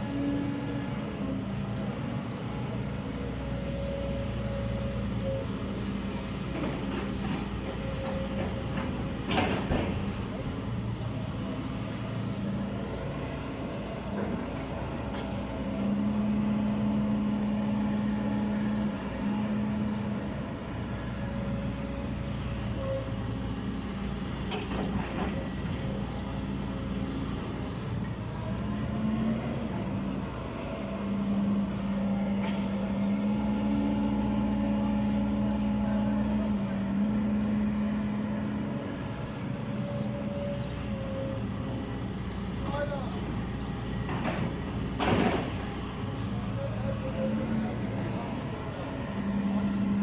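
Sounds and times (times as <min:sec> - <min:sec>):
backhoe diesel engine running: 0:00.0 - 0:50.0.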